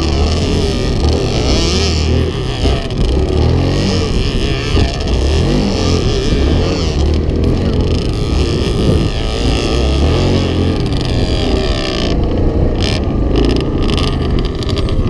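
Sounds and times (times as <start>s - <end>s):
off-road vehicle engines revving: 0.0s - 15.0s.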